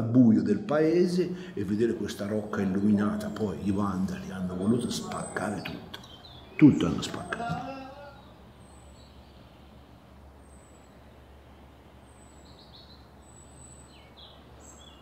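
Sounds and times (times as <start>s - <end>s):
small birds chirping: 0.8s - 15.0s.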